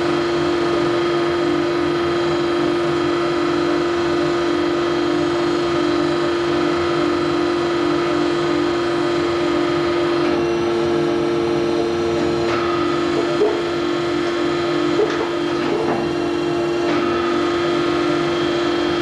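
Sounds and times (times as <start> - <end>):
machine tool humming: 0.0 - 19.0.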